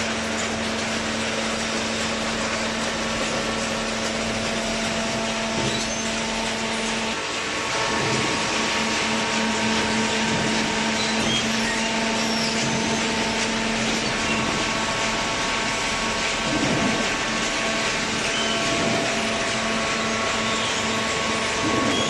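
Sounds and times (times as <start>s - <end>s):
baler machine hum: 0.1s - 22.0s.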